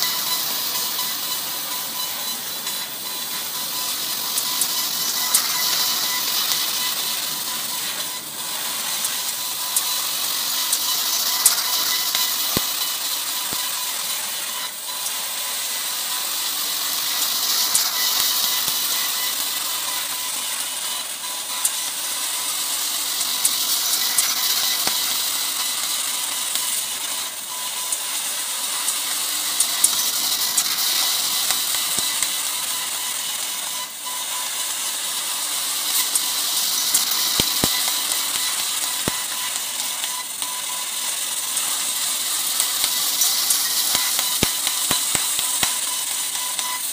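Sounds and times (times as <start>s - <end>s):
laser cutter hissing: 0.0s - 46.9s
thin steady whine: 0.0s - 46.9s.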